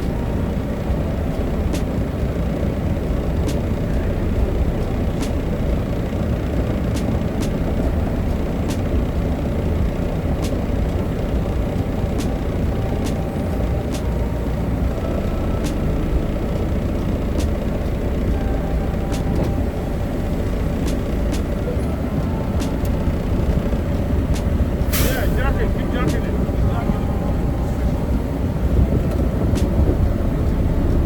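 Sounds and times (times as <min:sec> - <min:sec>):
diesel truck engine idling: 0:00.0 - 0:31.0.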